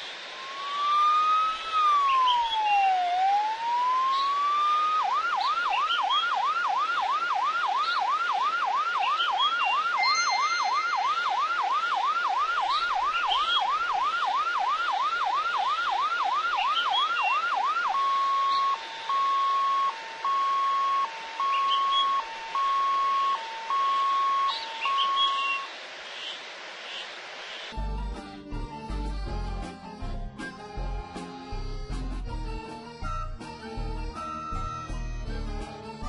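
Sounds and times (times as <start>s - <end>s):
electronic siren: 0.0s - 26.4s, 30.4s - 36.0s.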